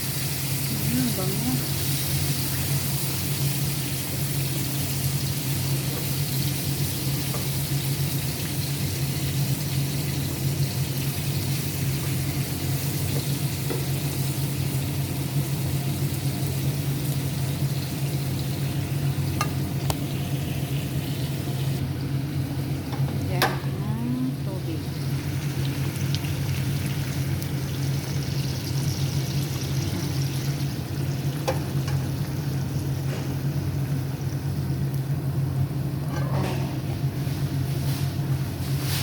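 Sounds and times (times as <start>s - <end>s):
chicken frying in oil: 0.0s - 21.8s, 24.4s - 39.0s.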